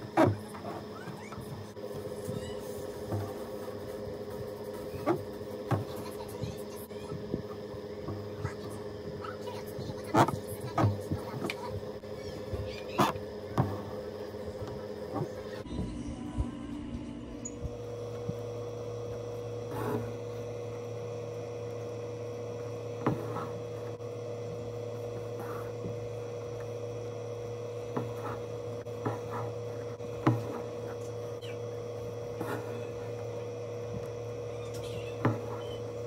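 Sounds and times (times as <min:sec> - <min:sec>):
electrical hum: 0:00.0 - 0:36.0.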